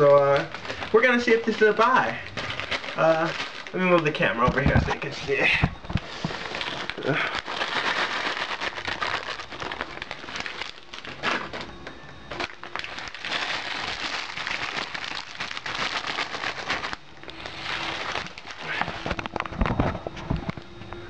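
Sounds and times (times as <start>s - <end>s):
crackling handling noise: 0.0s - 21.0s.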